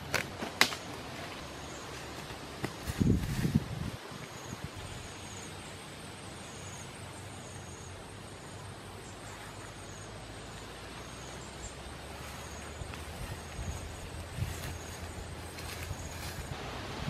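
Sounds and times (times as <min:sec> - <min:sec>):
outdoor background noise: 0:00.0 - 0:17.0
insect chirping trills: 0:01.4 - 0:16.6.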